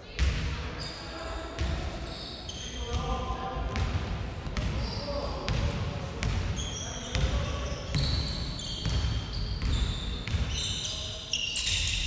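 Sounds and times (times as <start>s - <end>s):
sneakers squeaking: 0.2s - 3.2s, 4.5s - 12.0s.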